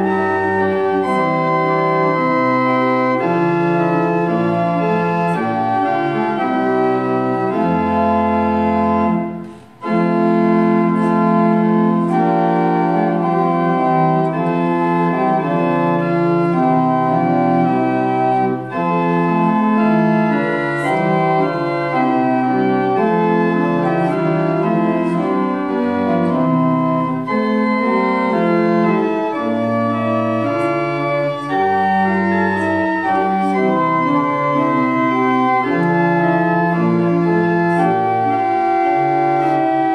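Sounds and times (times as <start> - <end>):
church organ playing hymn: 0.0 - 39.9.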